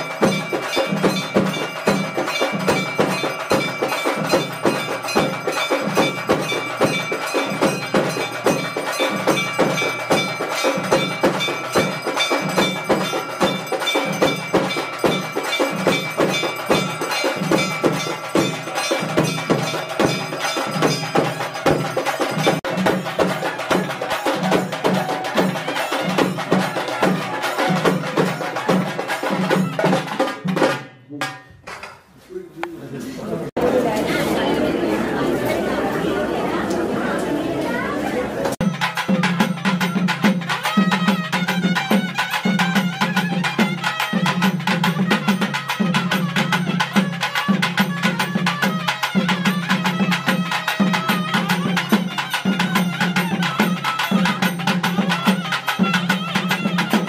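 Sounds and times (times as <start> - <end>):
rapid percussion drumming: 0.0 - 32.0, 33.5 - 57.0.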